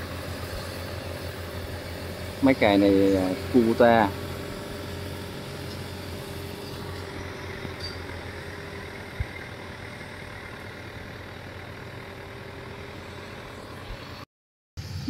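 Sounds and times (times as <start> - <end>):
tractor engine idling: 0.0 - 14.2.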